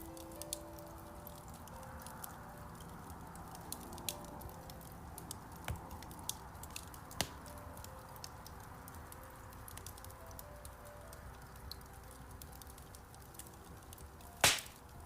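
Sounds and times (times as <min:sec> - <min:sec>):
soft hiss: 0:00.0 - 0:15.0
wood fire crackling: 0:00.0 - 0:15.0.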